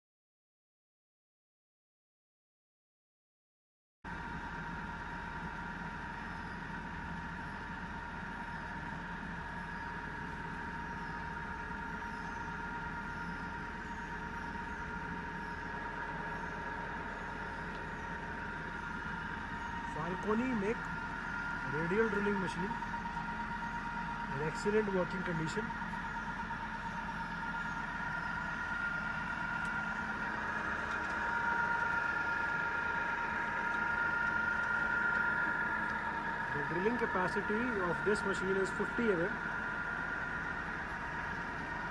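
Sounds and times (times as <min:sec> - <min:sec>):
drilling machine humming and whining: 0:04.1 - 0:41.9.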